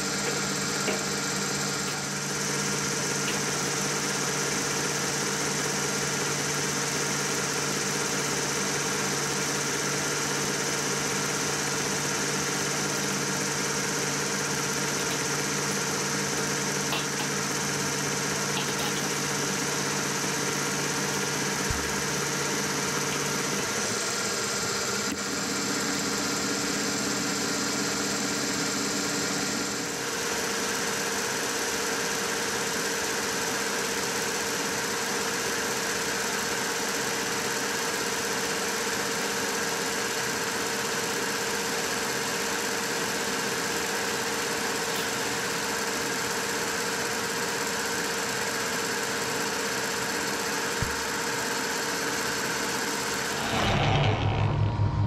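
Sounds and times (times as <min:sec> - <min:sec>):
milling machine hum and whine: 0:00.0 - 0:55.0.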